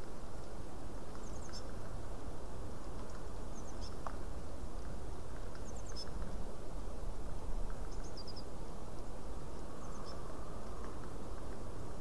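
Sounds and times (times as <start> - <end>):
low rumble and hiss: 0.0 - 12.0.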